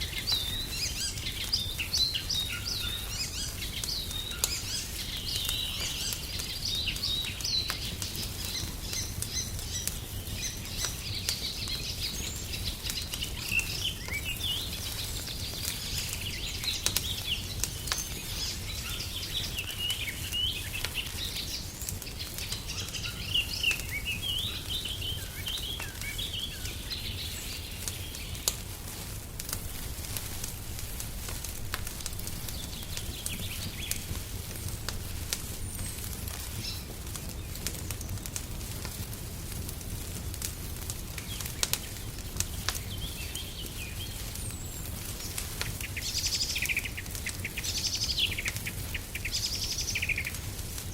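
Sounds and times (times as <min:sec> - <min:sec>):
songbirds chirping: 0:00.0 - 0:39.8, 0:40.5 - 0:50.9
wood fire crackling: 0:00.0 - 0:50.9.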